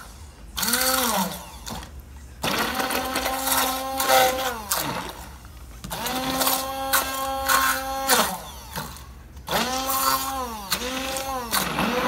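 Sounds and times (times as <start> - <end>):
stick blender motor whine: 0.0 - 12.0.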